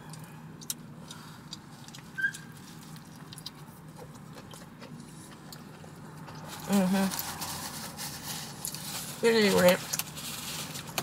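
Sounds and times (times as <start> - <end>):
person chewing food: 0.0 - 9.0
low steady hum: 0.0 - 11.0.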